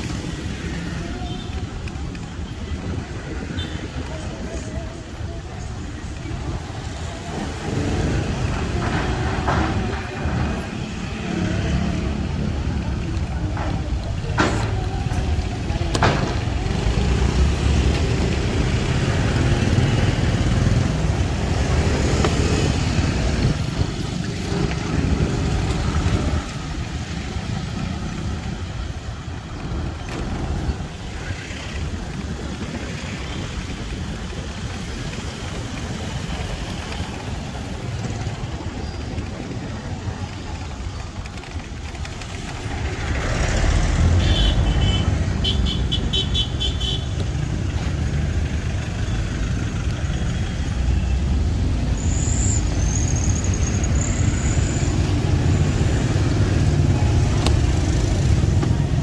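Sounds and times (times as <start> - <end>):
passing car and motorcycle engines: 0.0 - 59.0
road noise: 0.0 - 59.0.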